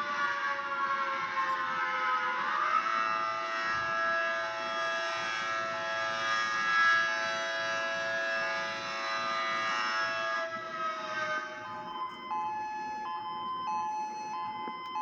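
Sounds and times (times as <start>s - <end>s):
electronic warning siren: 0.0s - 15.0s.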